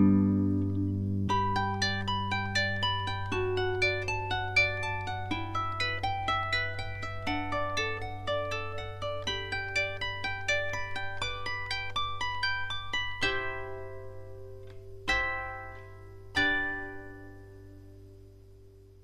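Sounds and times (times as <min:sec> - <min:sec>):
plucked harp-like notes: 0:00.0 - 0:18.2.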